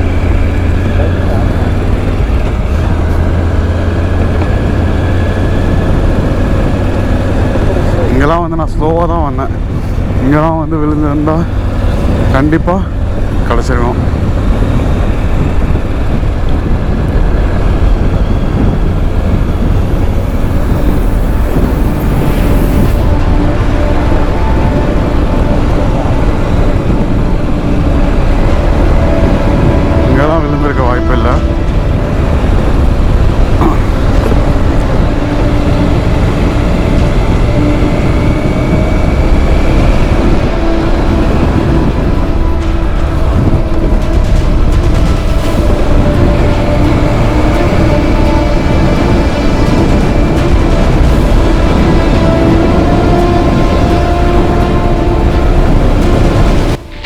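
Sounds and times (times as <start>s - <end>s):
motorcycle engine rumble: 0.0s - 57.0s
road noise: 0.0s - 57.0s
wind noise: 0.0s - 57.0s.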